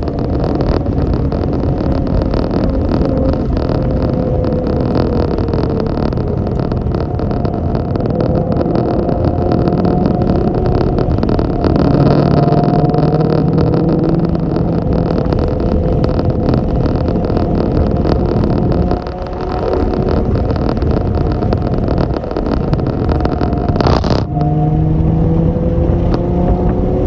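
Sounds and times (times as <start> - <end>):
dense rumbling noise: 0.0 - 27.0
engine running steadily: 0.0 - 27.0.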